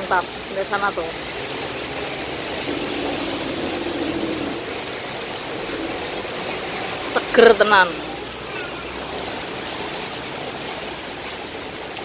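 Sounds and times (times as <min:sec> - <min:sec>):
heavy rain on paving and plants: 0:00.0 - 0:12.0.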